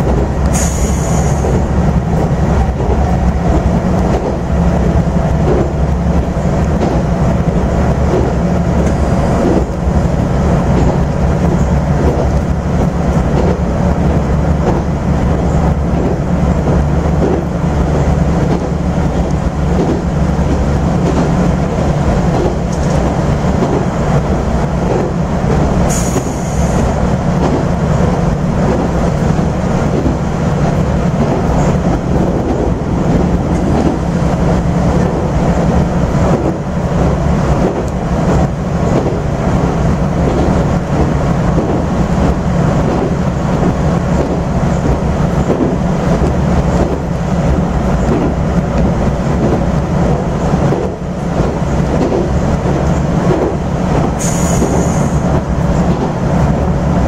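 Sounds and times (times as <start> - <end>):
diesel engine drone: 0.0 - 57.0
wheels on rail noise: 0.0 - 57.0.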